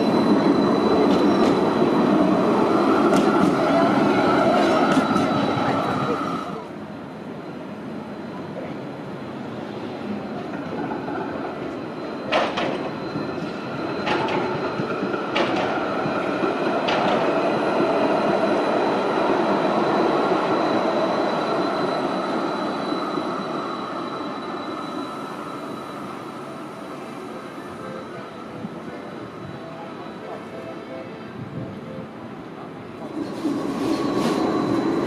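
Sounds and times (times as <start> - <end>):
tram rolling on rails: 0.0 - 35.0.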